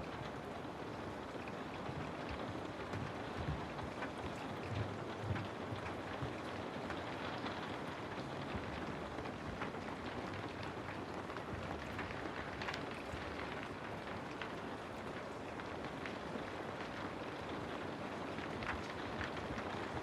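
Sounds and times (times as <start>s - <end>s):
steady rain falling: 0.0s - 20.0s
raindrop ticks: 0.2s - 20.0s.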